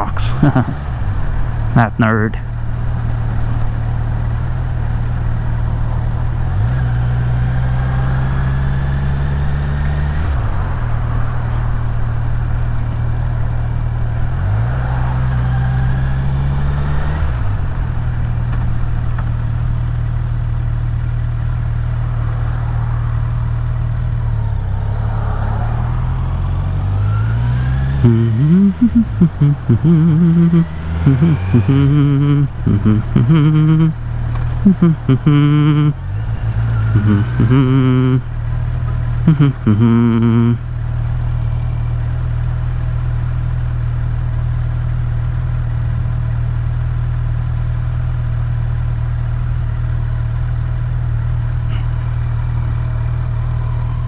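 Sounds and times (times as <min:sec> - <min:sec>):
motorcycle engine rising and falling: 0:00.0 - 0:46.2, 0:50.0 - 0:54.0.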